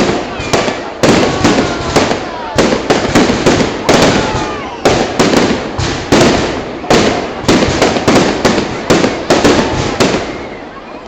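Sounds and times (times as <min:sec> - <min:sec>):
fireworks bursting: 0:00.0 - 0:10.7.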